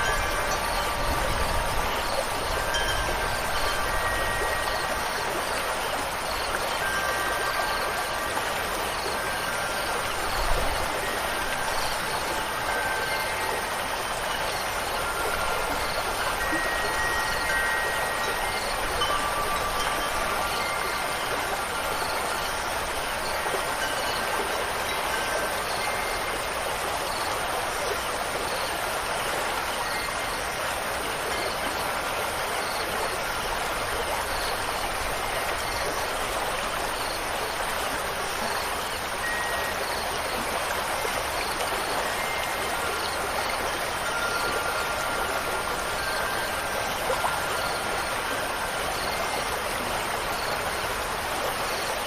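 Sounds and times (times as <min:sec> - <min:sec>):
wind chimes ringing: 0:00.0 - 0:28.7, 0:29.6 - 0:31.6, 0:32.7 - 0:51.8
water rushing: 0:00.0 - 0:52.0.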